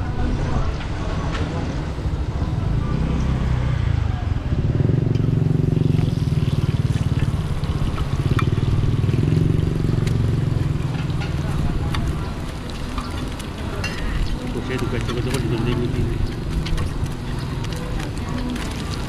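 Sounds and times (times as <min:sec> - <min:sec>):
motor engine running: 0:02.1 - 0:19.0.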